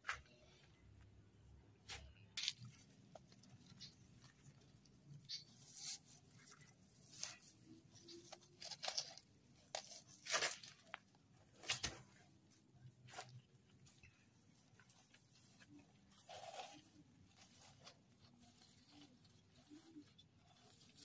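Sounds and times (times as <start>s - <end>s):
hands rustling potting soil: 0.0s - 21.0s.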